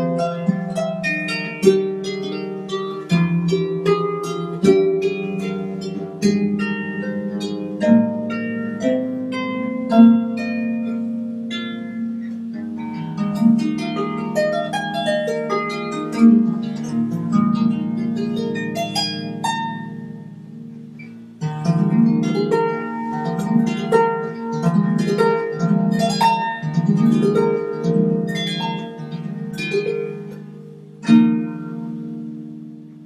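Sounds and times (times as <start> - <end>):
harp playing: 0.0 - 33.0.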